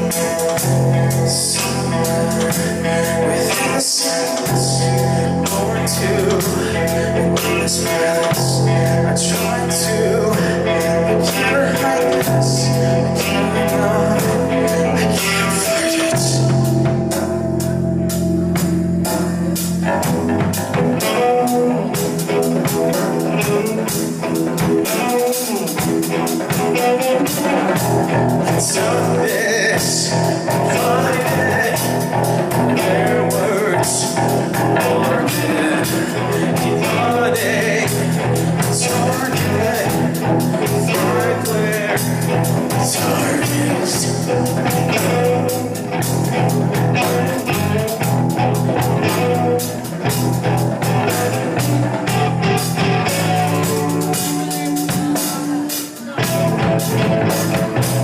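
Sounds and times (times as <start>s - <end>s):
live blues-rock band: 0.0s - 58.0s.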